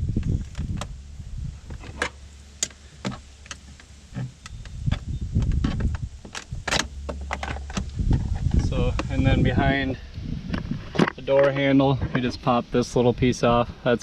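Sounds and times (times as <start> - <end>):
low handling rumbles: 0.0 - 14.0.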